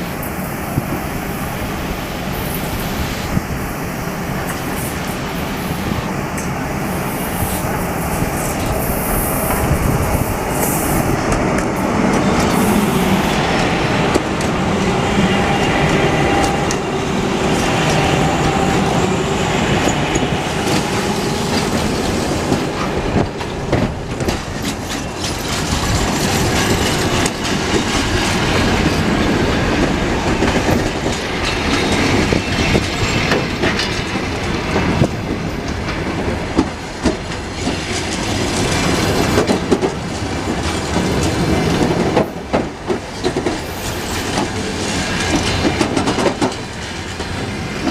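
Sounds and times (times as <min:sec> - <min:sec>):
train wheels clacking: 0:04.2 - 0:47.9.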